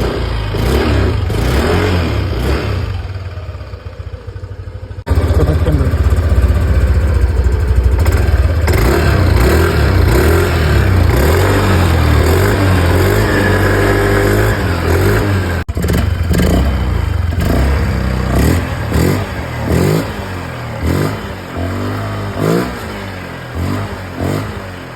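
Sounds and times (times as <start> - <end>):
scooter engine running loud: 0.0 - 24.9
scooter engine blips: 2.2 - 24.9.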